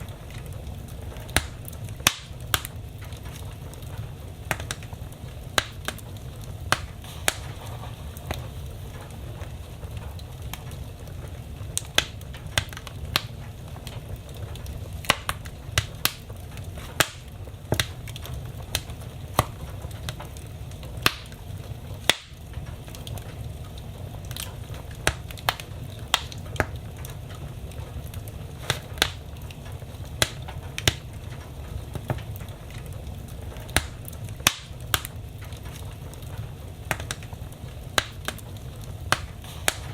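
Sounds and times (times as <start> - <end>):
fire flames rumbling: 0.0 - 39.9
wood crackling and popping: 0.0 - 39.9.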